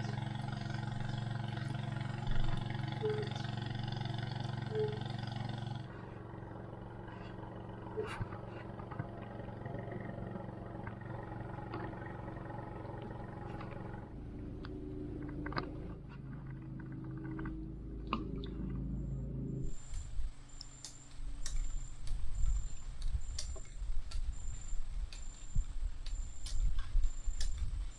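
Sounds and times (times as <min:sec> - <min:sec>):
small boat motor running: 0:00.0 - 0:27.9.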